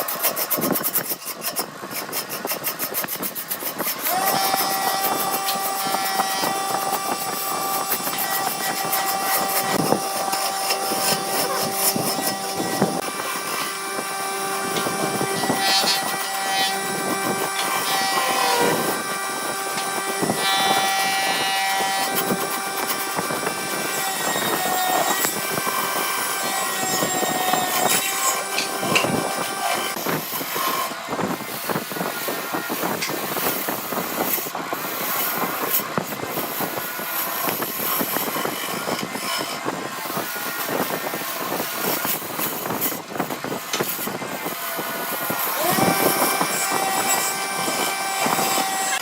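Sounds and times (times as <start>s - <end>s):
turning tool scraping wood: 0.0s - 49.0s
wood lathe motor running: 0.0s - 49.0s.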